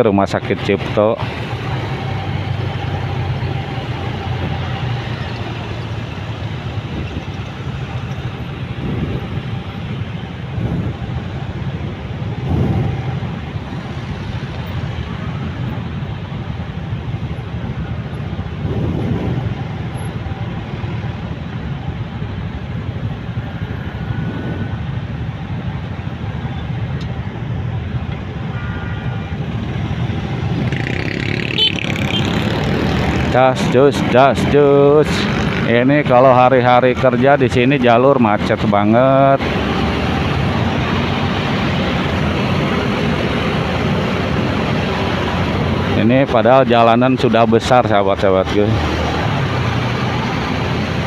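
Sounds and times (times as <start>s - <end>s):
motorcycle engine hum: 0.0s - 51.0s
traffic road noise: 0.0s - 51.0s
vehicles passing close by: 0.0s - 51.0s.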